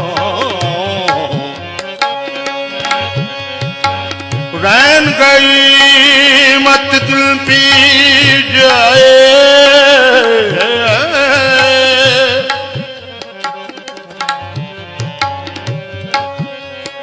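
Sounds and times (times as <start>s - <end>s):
harmonium note: 0.0s - 17.0s
man singing: 0.0s - 17.0s
tabla playing: 0.0s - 17.0s.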